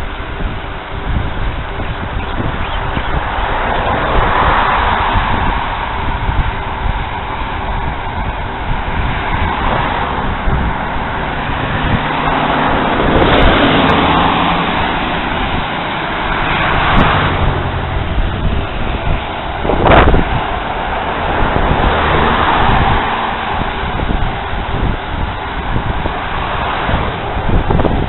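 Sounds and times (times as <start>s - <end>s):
cars passing on road: 0.0s - 28.0s
wind rushing on microphone: 0.0s - 28.0s.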